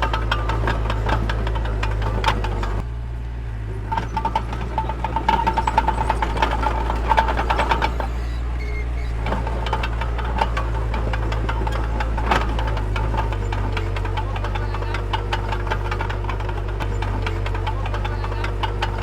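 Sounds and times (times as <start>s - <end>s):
rapid squeaking: 0.0s - 2.8s, 3.9s - 19.0s
metallic clanking and rattling: 0.0s - 2.9s, 3.9s - 19.0s
bulldozer engine running: 0.0s - 19.0s.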